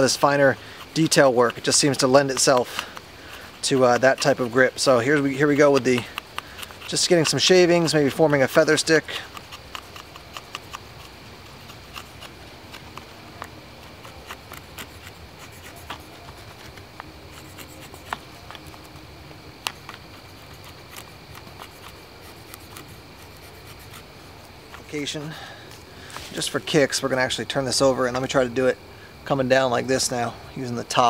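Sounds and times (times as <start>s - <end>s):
hatchet scraping wooden stick: 0.0s - 25.4s.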